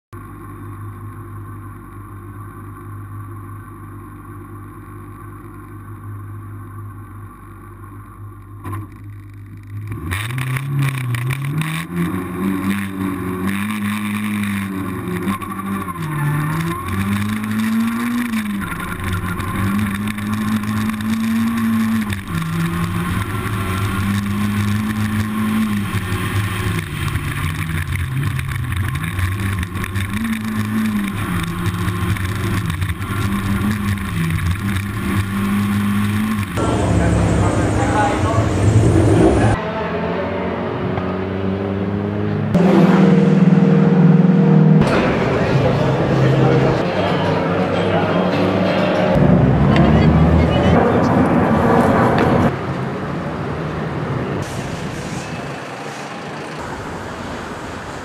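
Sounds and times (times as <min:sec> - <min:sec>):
racing car engine revving: 0:09.6 - 0:58.0.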